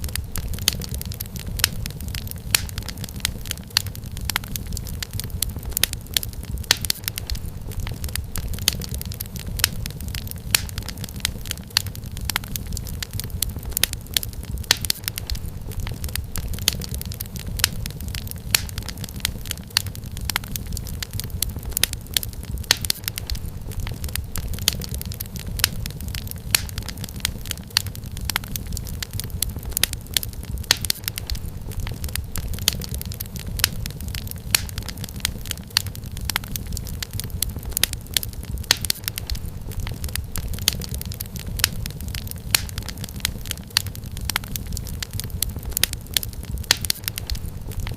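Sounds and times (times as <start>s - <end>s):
low rumble of flame: 0.0s - 47.9s
wood fire crackling and popping: 0.0s - 47.9s.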